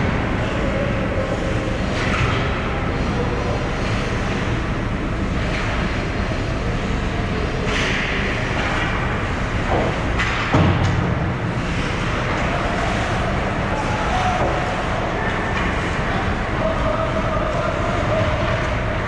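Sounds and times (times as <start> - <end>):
ice arena rumble: 0.0 - 19.0.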